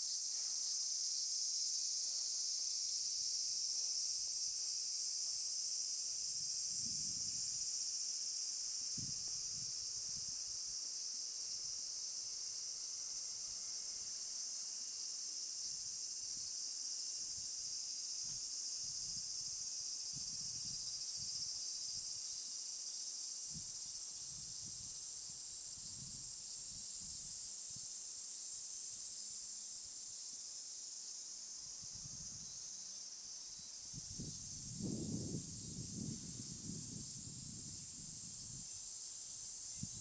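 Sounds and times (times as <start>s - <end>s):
cicadas shrilling: 0.0s - 40.0s.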